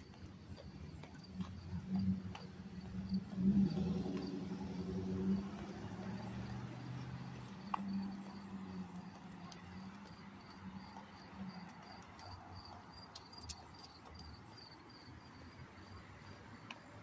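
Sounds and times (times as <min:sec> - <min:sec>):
traffic hum: 0:00.0 - 0:17.0
insect chirping: 0:00.1 - 0:08.9, 0:09.6 - 0:17.0.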